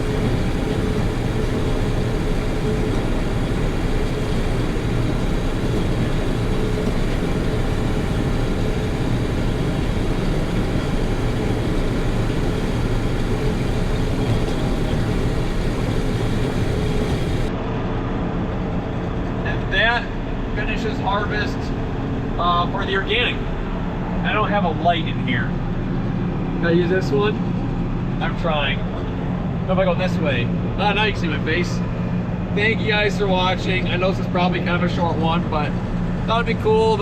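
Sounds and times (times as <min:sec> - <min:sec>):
combine harvester drone: 0:00.0 - 0:37.0.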